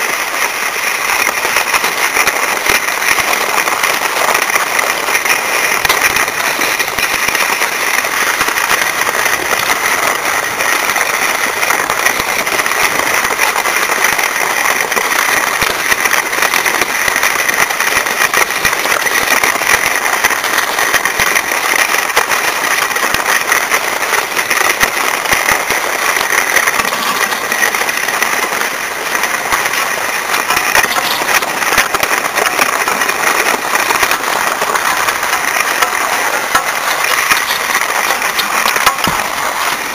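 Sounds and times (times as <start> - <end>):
skis sliding over snow: 0.0 - 39.9.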